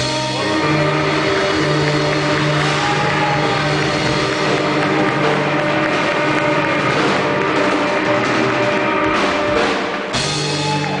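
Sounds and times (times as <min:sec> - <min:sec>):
live blues band playing: 0:00.0 - 0:11.0.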